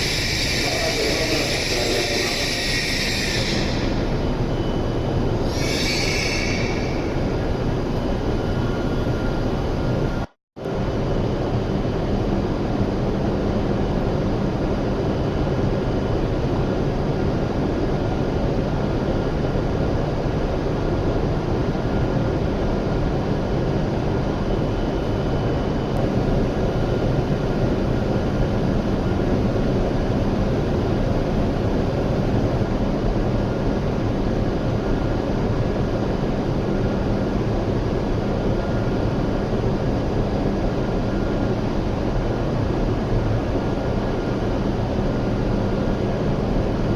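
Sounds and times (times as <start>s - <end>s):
train wheels and air rumbling: 0.0s - 46.9s.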